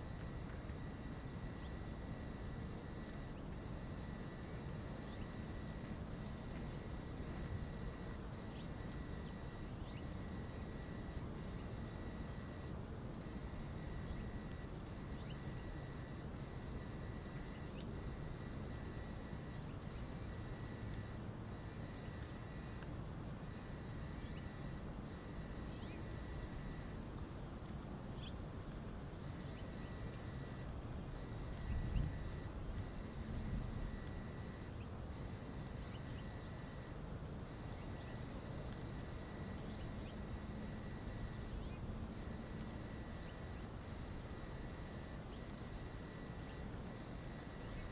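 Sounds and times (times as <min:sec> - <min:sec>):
steady low rumble: 0:00.0 - 0:47.9.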